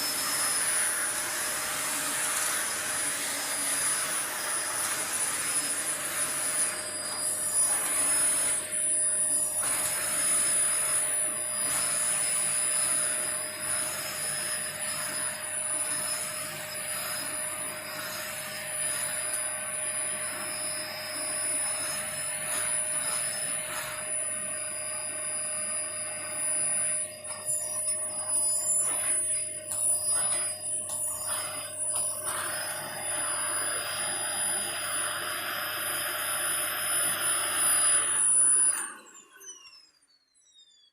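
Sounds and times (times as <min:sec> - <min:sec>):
vacuum cleaner running: 0:00.0 - 0:40.8.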